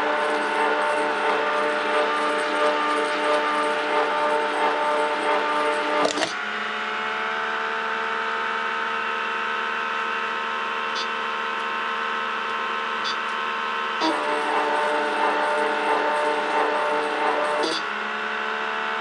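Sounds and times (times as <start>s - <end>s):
pump motor whirring hum: 0.0s - 19.0s.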